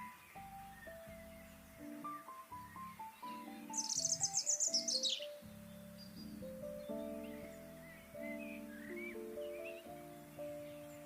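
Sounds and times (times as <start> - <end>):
gentle melodic music: 0.0 - 11.0
songbird trilling: 0.0 - 11.0.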